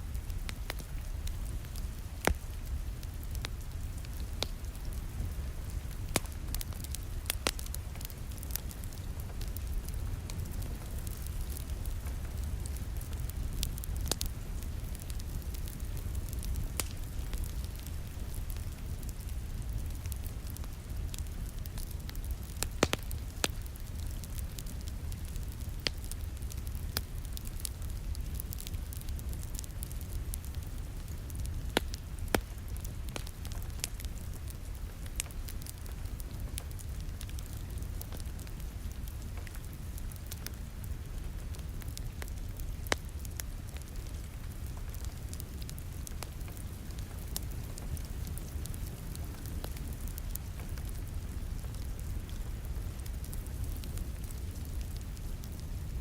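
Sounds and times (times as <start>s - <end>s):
low rumble of flame: 0.0s - 56.0s
soft hiss of rain: 0.0s - 56.0s
wood fire crackling: 0.0s - 56.0s.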